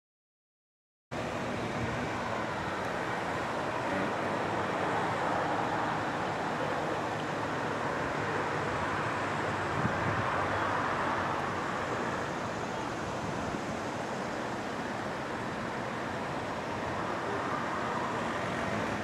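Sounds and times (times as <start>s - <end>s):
distant traffic: 1.1s - 19.0s
wind: 1.1s - 19.0s.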